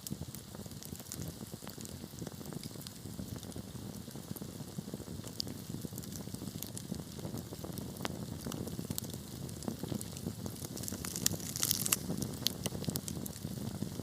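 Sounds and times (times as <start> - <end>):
fire crackling and popping: 0.0 - 14.0
wood fire hissing: 0.0 - 14.0.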